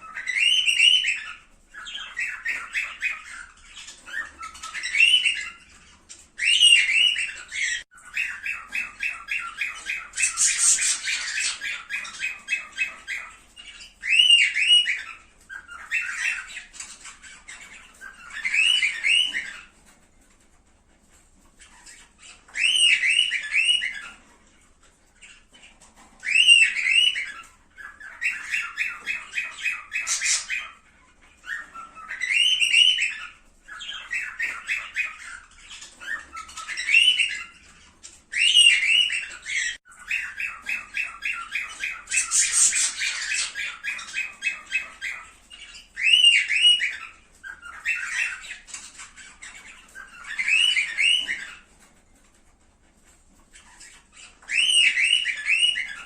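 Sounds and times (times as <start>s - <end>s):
rapid bird chattering: 0.0s - 19.7s, 25.3s - 51.7s
cockatiels whistle-squawking: 0.0s - 20.0s, 21.5s - 52.0s, 53.4s - 56.0s.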